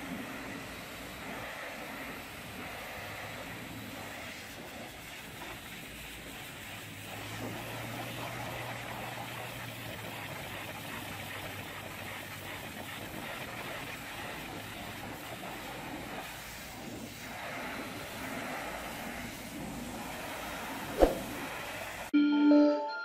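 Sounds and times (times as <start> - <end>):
pressure washer spray hissing: 0.0 - 22.1.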